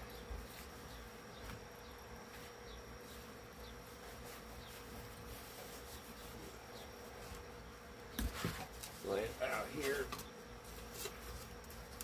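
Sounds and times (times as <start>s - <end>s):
faint buzzing hum: 0.0s - 12.0s.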